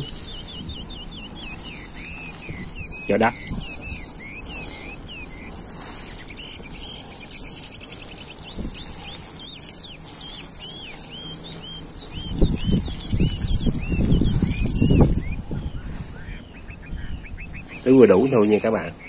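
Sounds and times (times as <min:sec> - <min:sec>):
hose nozzle spraying water: 0:00.0 - 0:15.4
bird chirping: 0:00.0 - 0:19.0.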